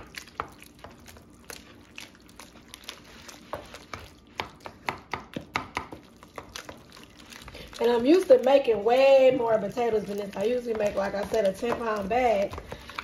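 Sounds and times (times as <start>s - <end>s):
wooden spoon mashing in bowl: 0.0s - 13.0s.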